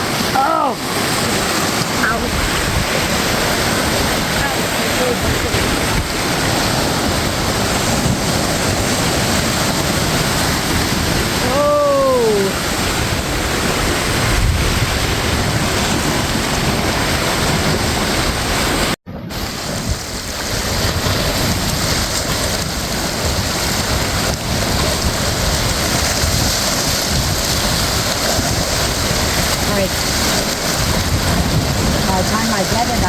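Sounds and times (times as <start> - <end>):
ocean surf breaking in cave: 0.0 - 33.0.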